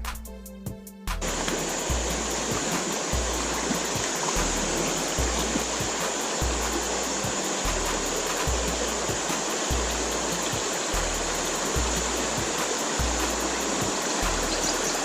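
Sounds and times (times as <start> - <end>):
low bass pulse: 1.2 - 15.0
water running over rocks: 1.2 - 15.0.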